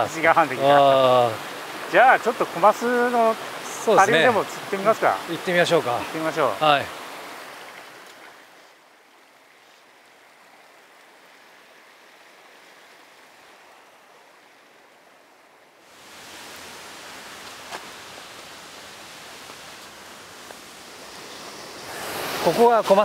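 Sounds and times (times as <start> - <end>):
stream water running over rocks: 0.0 - 23.0.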